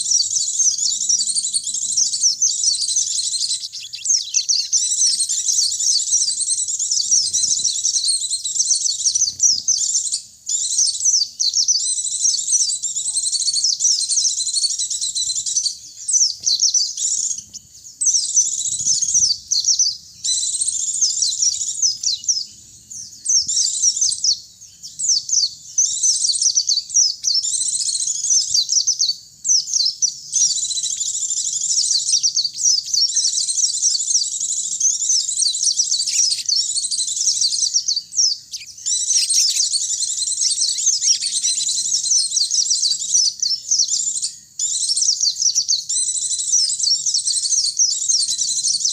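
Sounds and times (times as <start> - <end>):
birds twittering: 0.0 - 48.9.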